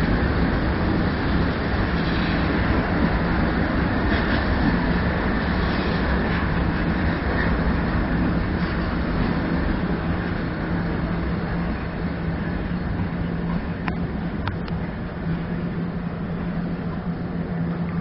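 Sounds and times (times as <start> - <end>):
train coaches rumbling on rails: 0.0 - 18.0.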